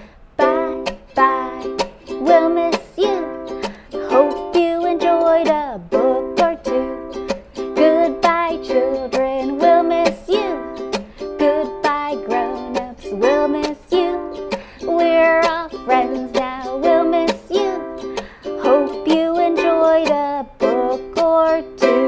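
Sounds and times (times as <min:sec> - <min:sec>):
ukulele strumming: 0:00.0 - 0:22.0
woman singing: 0:00.4 - 0:22.0.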